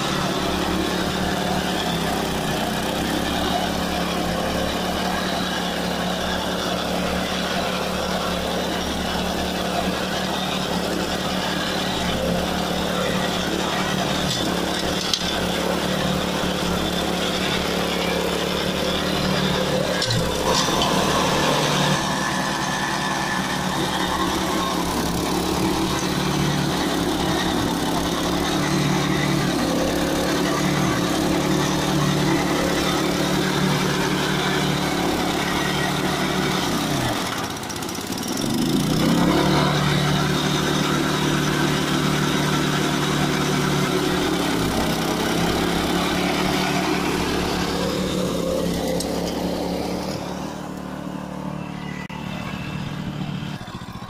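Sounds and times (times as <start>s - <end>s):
mower engine running under load: 0.0s - 54.0s.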